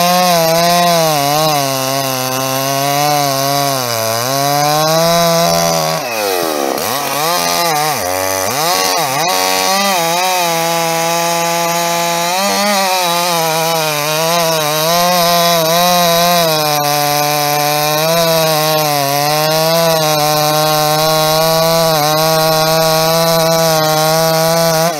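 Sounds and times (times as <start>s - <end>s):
chainsaw cutting through log: 0.0s - 24.9s.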